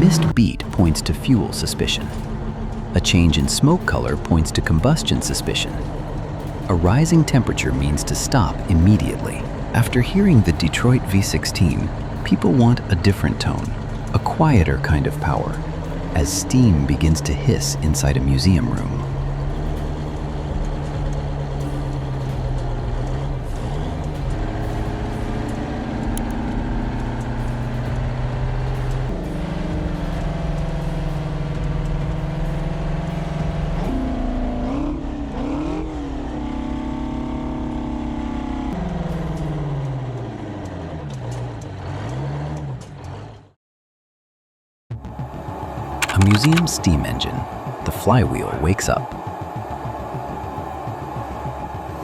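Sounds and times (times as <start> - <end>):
large engine humming: 0.0 - 43.6, 44.9 - 52.0.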